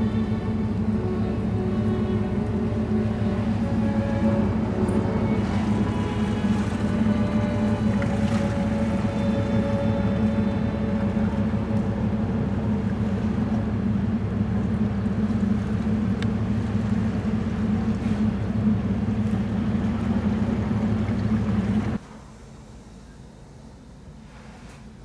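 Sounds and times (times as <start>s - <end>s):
ship machinery drone: 0.0s - 25.0s.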